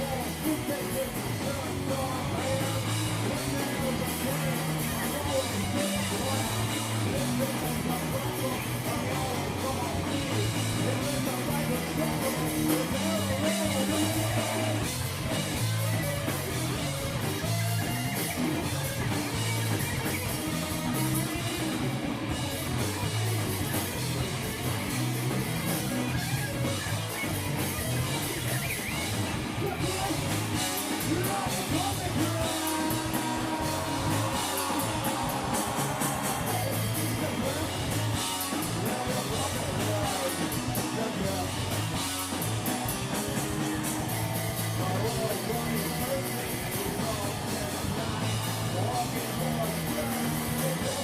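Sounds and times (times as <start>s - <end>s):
bass guitar: 0.0s - 51.0s
drum kit: 0.0s - 51.0s
electric guitar: 0.0s - 51.0s.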